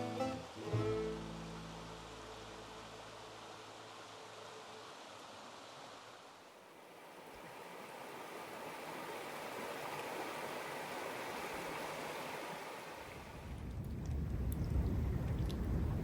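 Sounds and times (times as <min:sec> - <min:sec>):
rushing water of a stream: 0:00.0 - 0:14.3.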